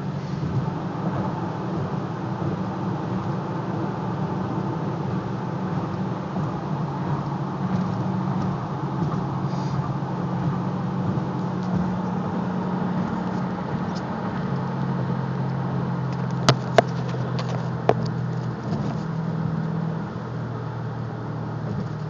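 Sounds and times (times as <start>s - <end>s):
car engine low drone from cabin: 0.0s - 22.0s.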